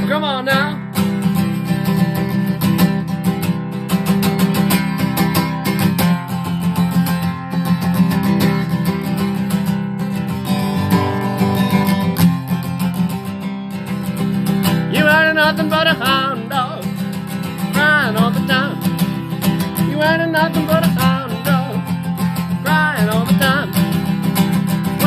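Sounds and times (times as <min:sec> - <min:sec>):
rock and roll guitar playing: 0:00.0 - 0:25.0.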